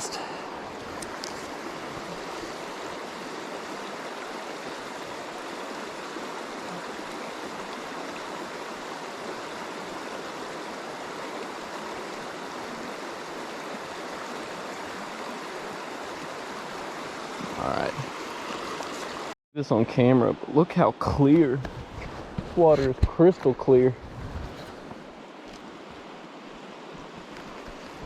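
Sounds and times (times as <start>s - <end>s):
river water running over rocks: 0.0s - 19.4s, 21.0s - 28.0s.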